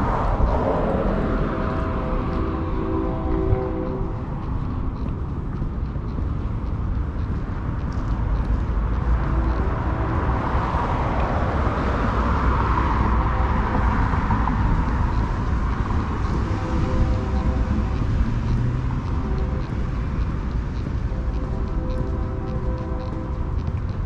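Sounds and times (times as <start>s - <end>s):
passing vehicle: 0.0s - 24.0s
street low rumble: 0.0s - 24.0s.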